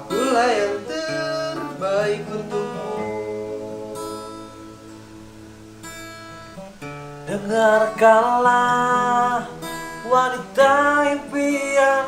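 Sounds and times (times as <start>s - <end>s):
person singing: 0.0s - 5.2s, 7.2s - 12.0s
acoustic guitar strumming: 0.0s - 12.0s.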